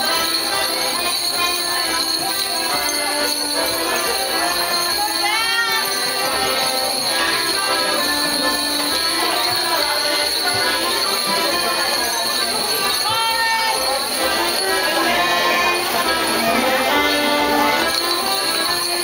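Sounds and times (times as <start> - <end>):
folk dance tune: 0.0 - 19.0
leg bells jingling: 0.0 - 19.0.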